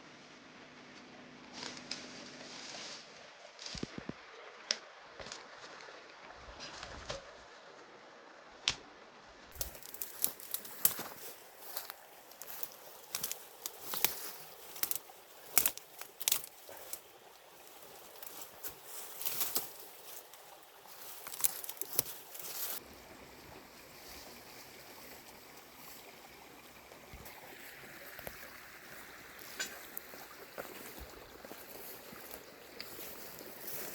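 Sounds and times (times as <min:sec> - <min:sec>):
stream water flowing: 0:02.3 - 0:33.9.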